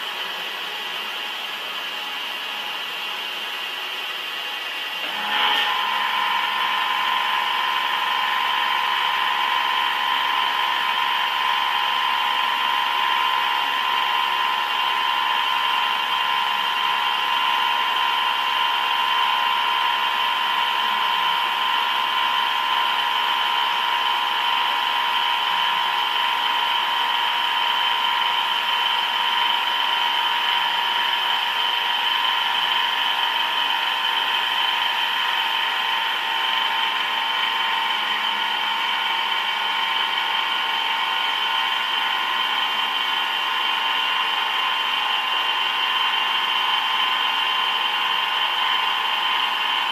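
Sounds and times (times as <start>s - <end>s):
machine tool high-pitched whine: 0.0s - 49.9s.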